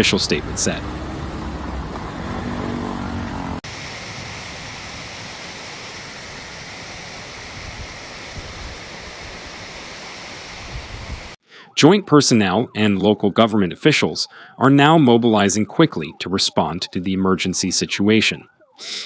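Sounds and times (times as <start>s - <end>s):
floodwater rushing: 3.6s - 19.0s.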